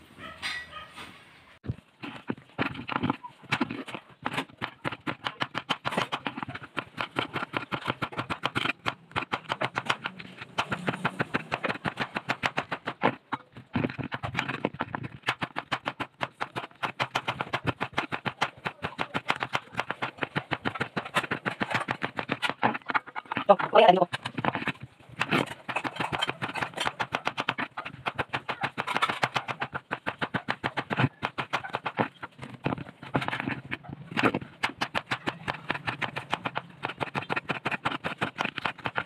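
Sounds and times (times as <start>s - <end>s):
knife chopping on wooden board: 2.0s - 39.0s.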